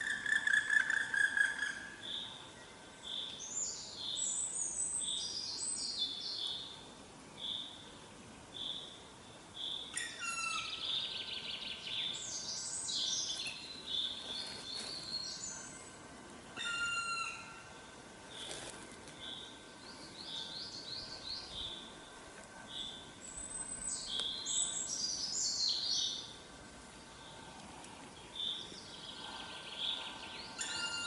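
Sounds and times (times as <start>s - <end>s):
birds singing trilled songs: 0.0s - 16.0s, 16.6s - 26.4s, 27.0s - 31.0s.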